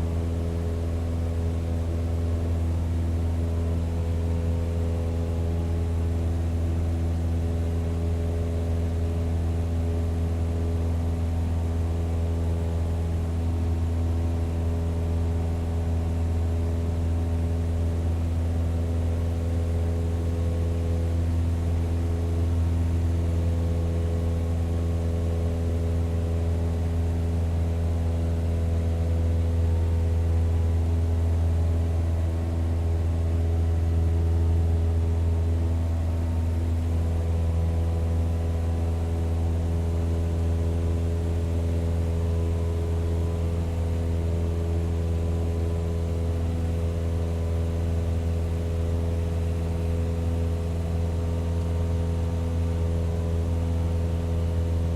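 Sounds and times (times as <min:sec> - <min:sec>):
propeller plane engine drone: 0:00.0 - 0:54.9.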